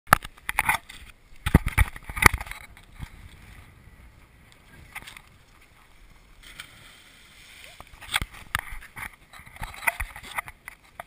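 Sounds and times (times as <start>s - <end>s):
faint steady rush: 2.0s - 11.0s.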